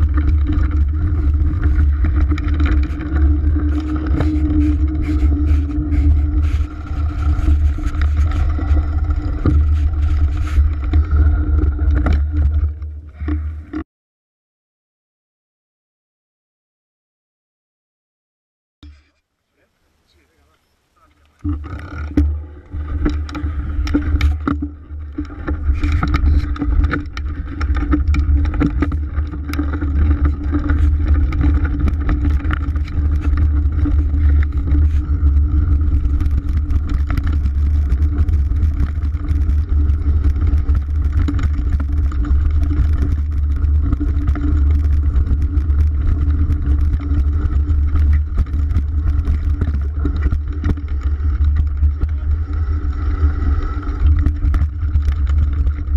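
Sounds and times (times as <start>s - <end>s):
bike rattling and knocking: 0.0s - 13.3s, 21.4s - 55.9s
wind rumbling on microphone: 0.0s - 13.8s, 20.1s - 55.9s.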